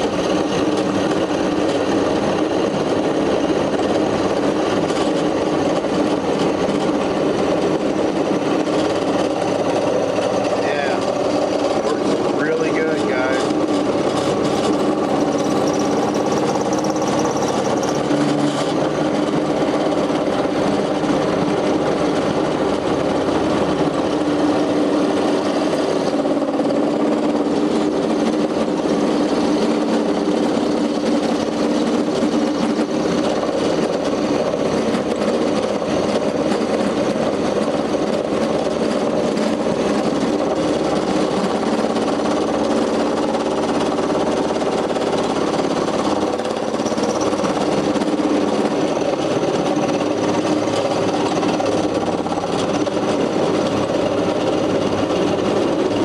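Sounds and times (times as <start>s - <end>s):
end mill grinding metal: 0.0s - 56.0s
motor hum: 0.0s - 56.0s.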